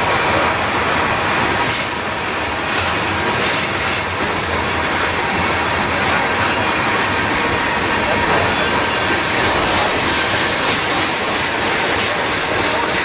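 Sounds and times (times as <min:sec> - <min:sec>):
freight cars rumbling on rail: 0:00.0 - 0:13.0.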